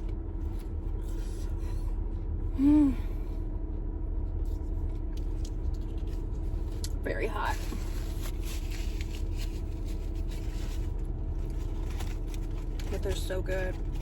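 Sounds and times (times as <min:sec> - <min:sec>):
car interior low rumble: 0:00.0 - 0:14.0.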